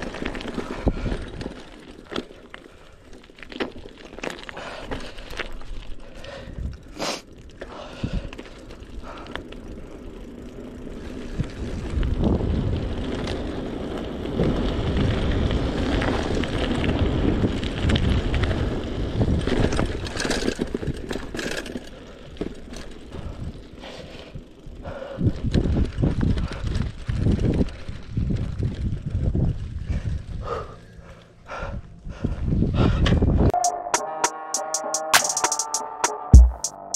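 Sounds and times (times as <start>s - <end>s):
bike rattling: 0.0s - 33.5s.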